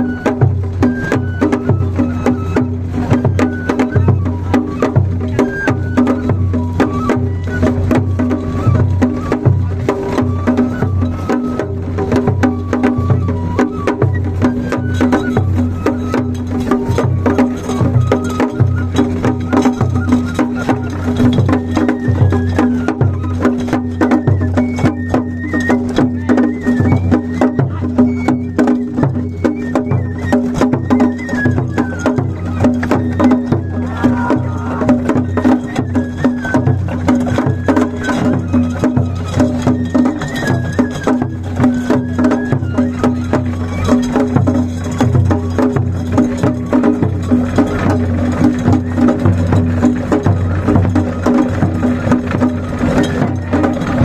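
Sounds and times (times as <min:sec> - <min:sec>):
taiko drumming: 0:00.0 - 0:54.0.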